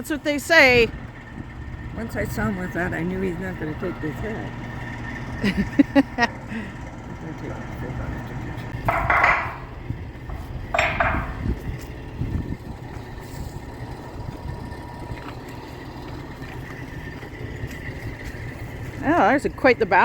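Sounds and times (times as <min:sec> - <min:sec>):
heavy machinery engine idling: 0:00.0 - 0:20.0.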